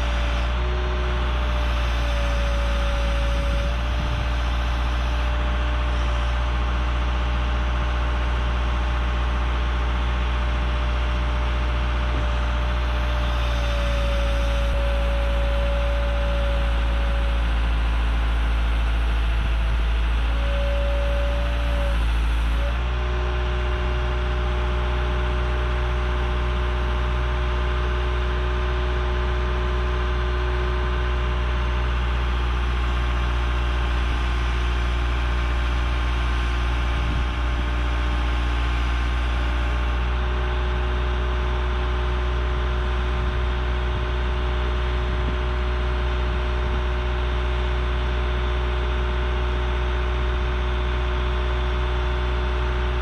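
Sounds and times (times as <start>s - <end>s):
backhoe engine droning: 0.0s - 53.0s.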